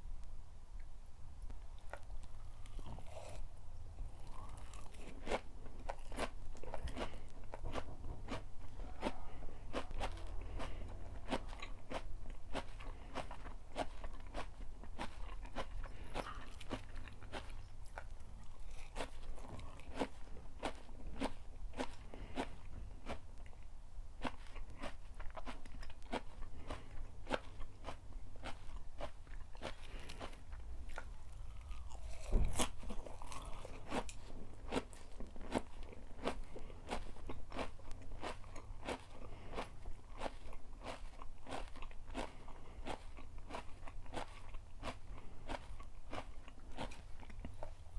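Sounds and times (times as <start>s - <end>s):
chewing crunchy food: 1.5s - 47.9s.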